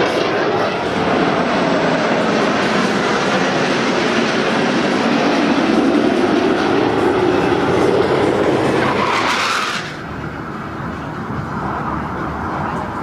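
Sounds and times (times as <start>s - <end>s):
jet engines flying past: 0.0s - 13.0s.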